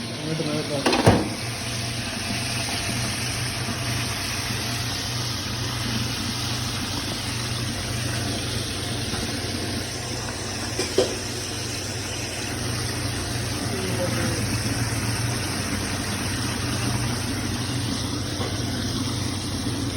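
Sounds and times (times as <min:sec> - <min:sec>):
low machine hum: 0:00.0 - 0:19.9.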